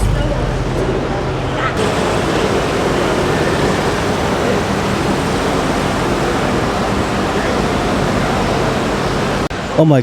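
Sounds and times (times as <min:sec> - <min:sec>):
steady rushing noise: 0:00.0 - 0:09.7
vehicle engine humming: 0:00.0 - 0:09.7.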